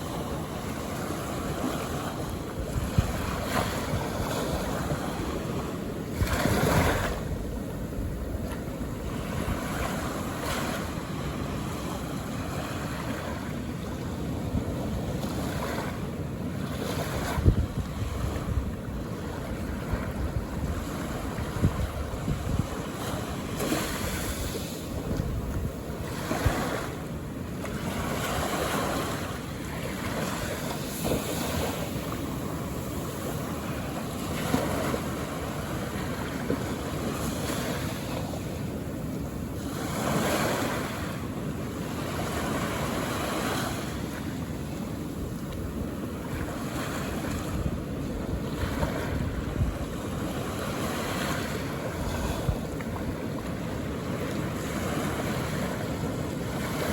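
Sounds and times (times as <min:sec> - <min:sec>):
ocean waves washing on shore: 0:00.0 - 0:56.9.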